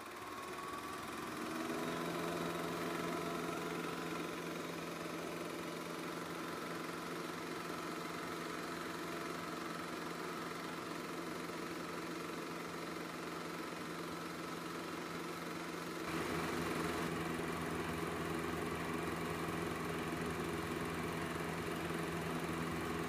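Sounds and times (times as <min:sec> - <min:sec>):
film projector motor whirring: 0:00.0 - 0:23.0.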